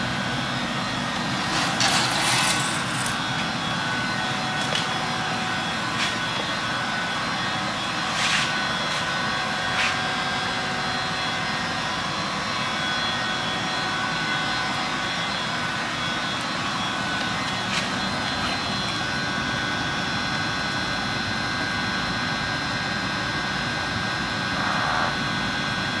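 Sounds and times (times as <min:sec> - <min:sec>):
faint steady tonal hum: 0:00.0 - 0:26.0.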